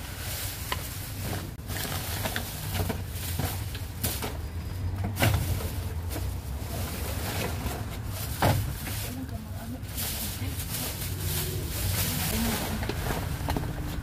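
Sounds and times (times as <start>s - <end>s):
rustling cardboard and plastic bags: 0.0s - 14.0s.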